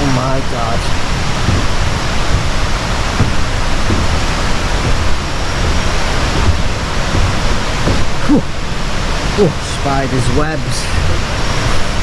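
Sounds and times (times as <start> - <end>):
falling water rushing: 0.0 - 12.0.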